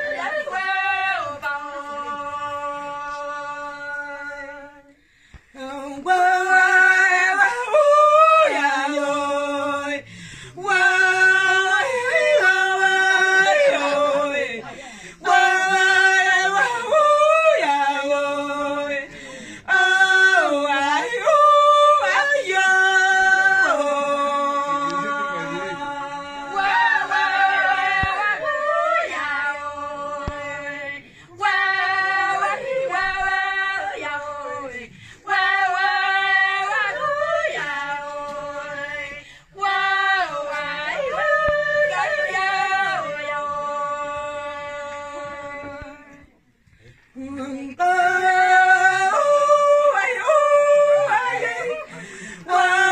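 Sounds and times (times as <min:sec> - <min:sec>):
women singing unaccompanied: 0:00.0 - 0:46.4, 0:47.1 - 0:52.9.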